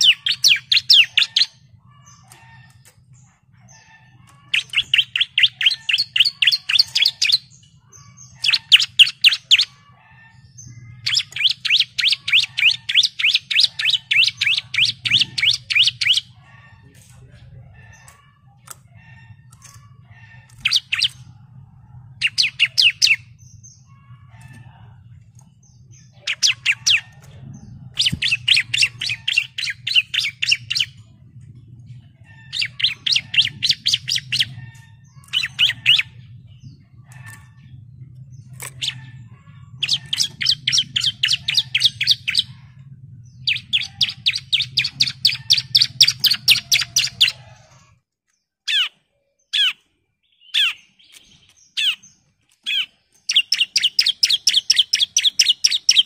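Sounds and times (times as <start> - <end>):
bird singing sharp repeated notes: 0.0 - 47.4, 48.6 - 56.0.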